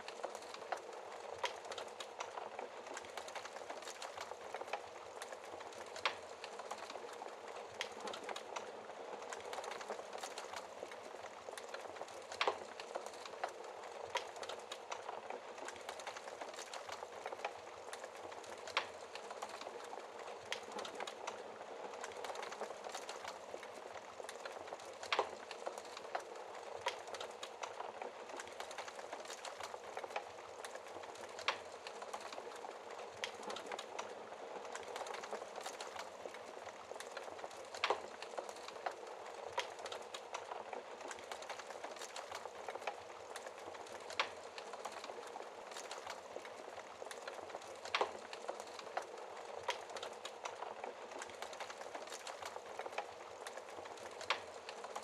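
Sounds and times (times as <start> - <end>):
wood fire crackling: 0.0 - 55.0
fire pops: 0.2 - 55.0.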